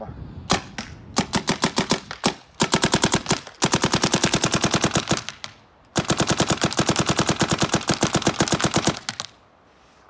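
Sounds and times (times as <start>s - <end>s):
paintball marker rapid firing: 0.5s - 9.4s.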